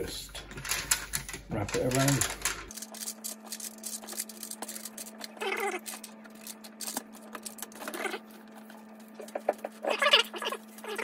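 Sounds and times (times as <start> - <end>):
steady low hum: 0.0 - 11.0
aluminium foil crinkling: 1.7 - 11.0.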